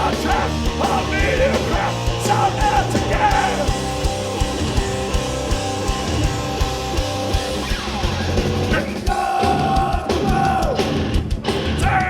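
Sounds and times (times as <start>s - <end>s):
punk band playing live: 0.0s - 12.0s.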